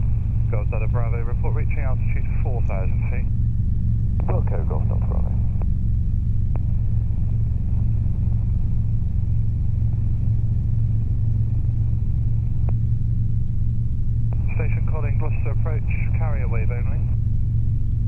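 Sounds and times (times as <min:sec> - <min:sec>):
helicopter engine and rotor drone: 0:00.0 - 0:18.0.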